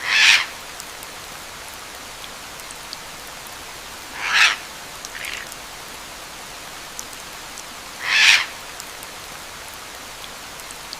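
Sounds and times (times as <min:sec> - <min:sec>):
rain hiss: 0:00.0 - 0:10.9.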